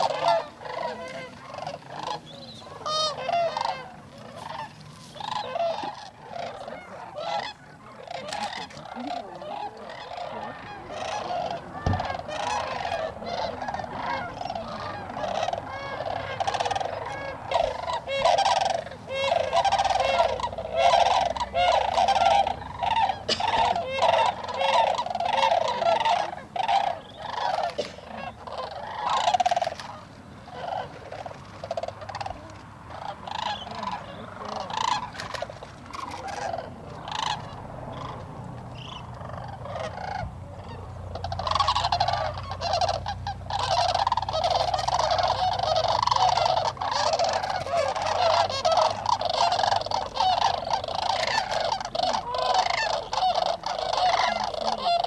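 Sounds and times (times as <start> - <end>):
cranes calling: 0.0 - 55.0.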